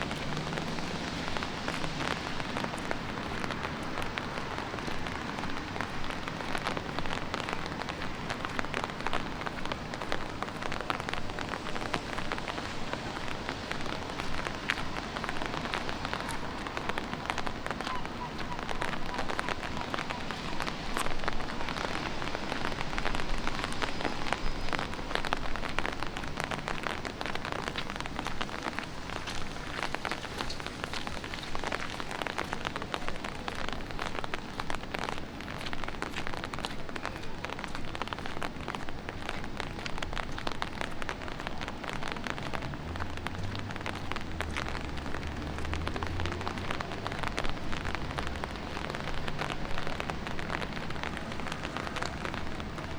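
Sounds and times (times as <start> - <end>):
light rain pattering: 0.0 - 52.9.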